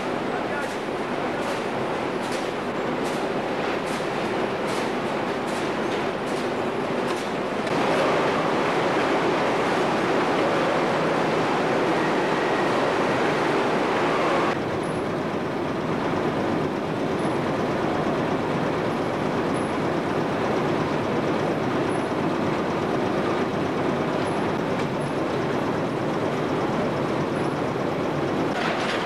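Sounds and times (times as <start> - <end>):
processing machines running: 0.0 - 29.0.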